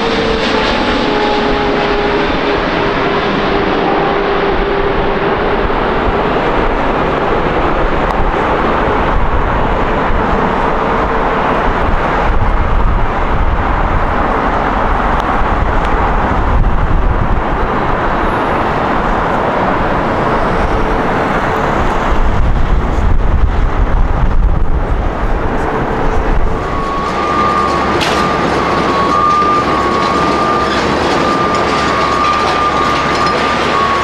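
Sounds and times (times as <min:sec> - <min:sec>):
jet airliner engines: 0:00.0 - 0:34.0.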